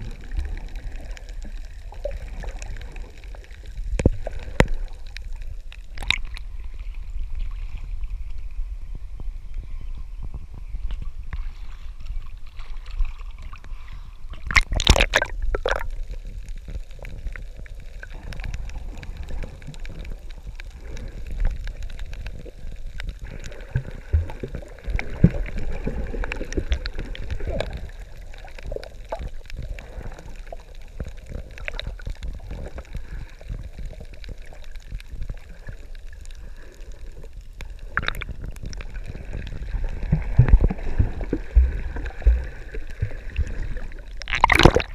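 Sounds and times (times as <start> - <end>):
water splashing: 0.0 - 8.0, 11.4 - 36.6, 37.8 - 44.9
low underwater rumble: 0.0 - 44.9
underwater sloshing and gurgling: 0.0 - 44.9.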